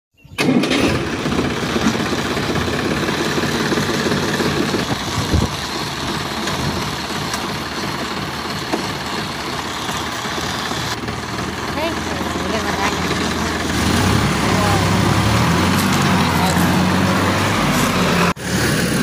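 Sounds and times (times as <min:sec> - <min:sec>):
engine idling: 0:00.4 - 0:19.0.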